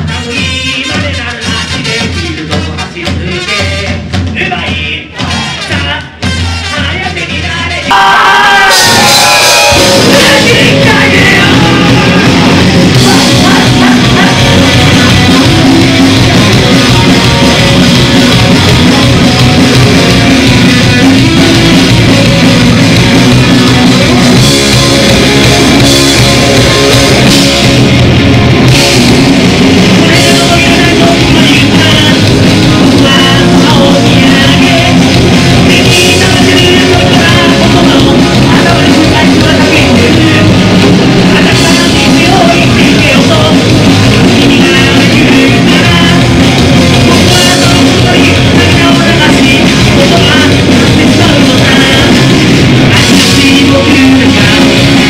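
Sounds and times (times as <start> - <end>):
live punk rock band playing: 0.0 - 55.0.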